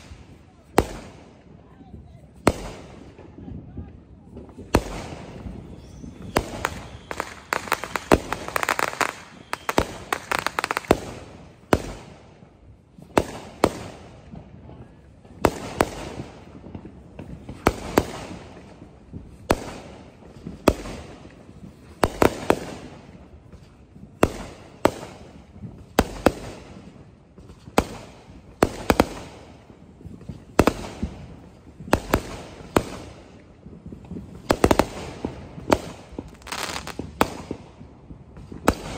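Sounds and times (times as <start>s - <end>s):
fireworks bursting with echoing rumble: 0.0s - 38.9s.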